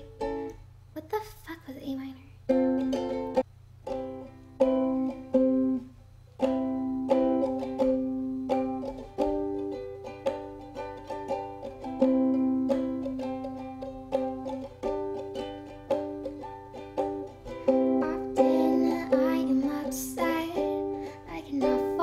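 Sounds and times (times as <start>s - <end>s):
ukulele strumming: 0.0s - 0.7s, 2.5s - 22.0s.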